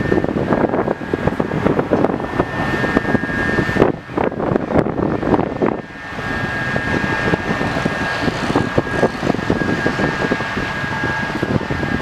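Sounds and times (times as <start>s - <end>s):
heavy machinery running: 0.0s - 12.0s
high steady whine: 0.0s - 12.0s.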